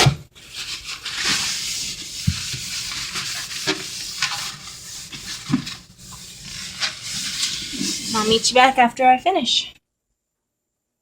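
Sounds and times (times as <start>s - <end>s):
paper towel scrubbing: 0.4s - 9.6s.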